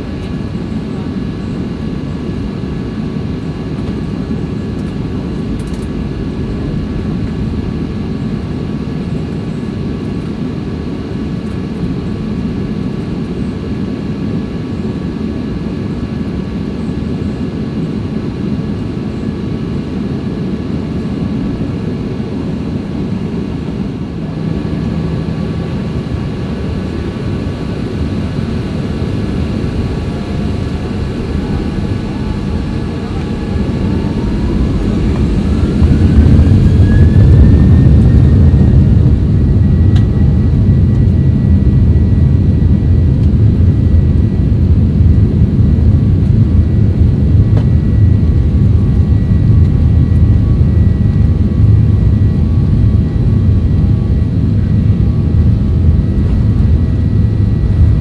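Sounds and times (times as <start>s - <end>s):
jet engine drone from cabin: 0.0s - 58.0s.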